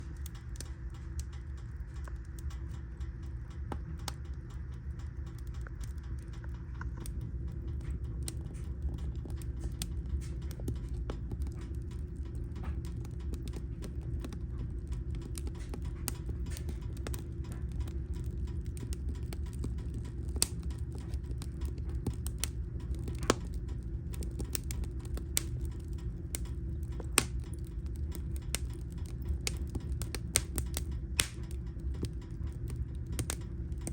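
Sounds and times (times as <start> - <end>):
fire low rumble: 0.0 - 33.9
logs crackling and popping: 0.0 - 33.9.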